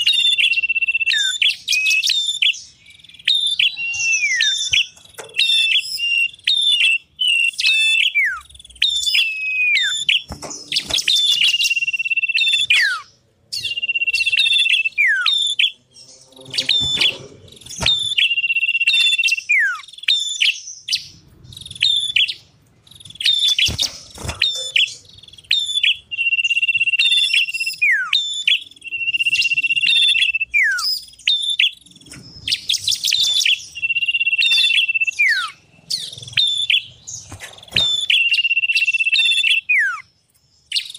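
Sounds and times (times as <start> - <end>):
high chirping bird trills: 0.0 - 40.9.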